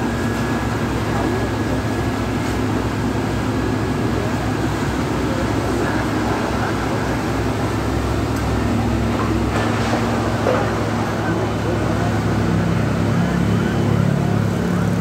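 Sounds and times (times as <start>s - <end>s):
constant hum: 0.0s - 15.0s
street noise: 0.0s - 15.0s.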